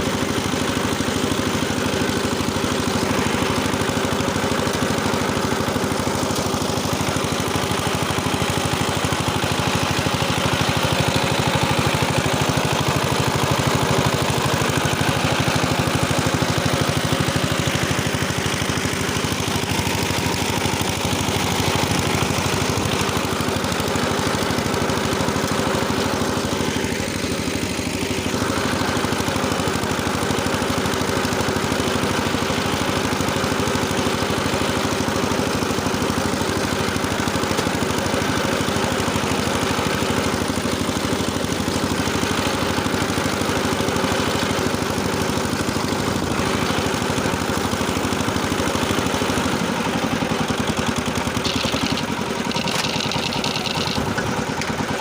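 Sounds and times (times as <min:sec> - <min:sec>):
rotary tiller engine running: 0:00.0 - 0:55.0.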